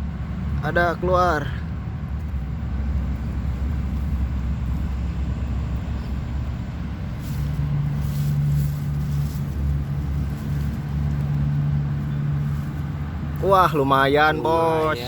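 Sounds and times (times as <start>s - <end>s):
engine hum: 0.0s - 15.0s
low rumble of traffic: 0.0s - 15.0s.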